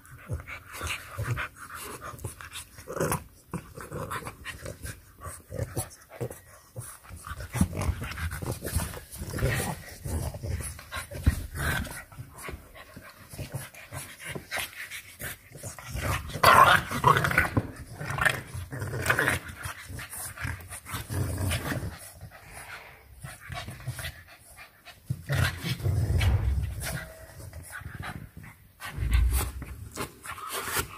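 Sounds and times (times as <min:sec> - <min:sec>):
puppies growling: 0:00.0 - 0:30.9.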